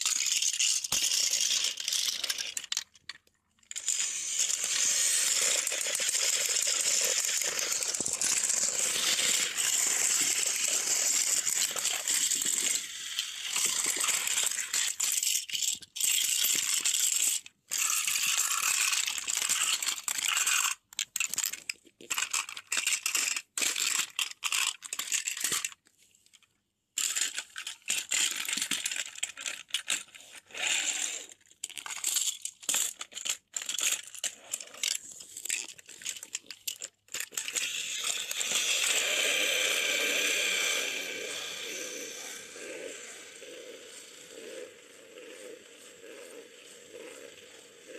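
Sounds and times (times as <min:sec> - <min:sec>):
toy trains rattling on track: 0:00.0 - 0:47.9.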